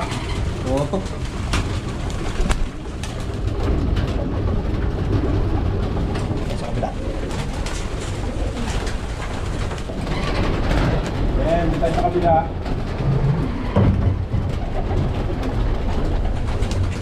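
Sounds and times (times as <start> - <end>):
pigeons cooing: 0.0 - 17.0
pigeons pecking: 0.0 - 17.0
steady low rumble: 0.0 - 17.0
wing flaps: 0.0 - 17.0.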